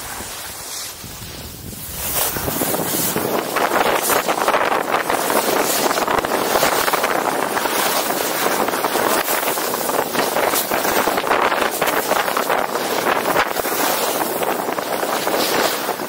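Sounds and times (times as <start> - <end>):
skis scraping on snow: 0.0 - 16.0
wind rushing over microphone: 0.0 - 16.0.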